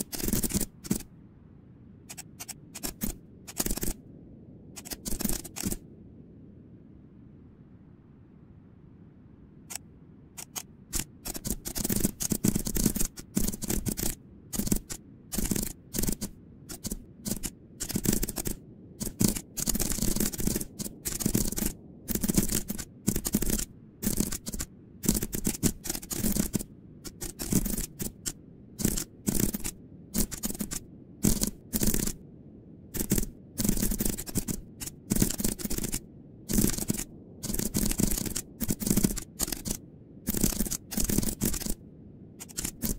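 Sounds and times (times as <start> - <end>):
typing on computer keyboard: 0.0 - 1.1, 2.1 - 4.0, 4.8 - 5.8, 10.4 - 32.2, 33.0 - 41.8, 42.4 - 42.9.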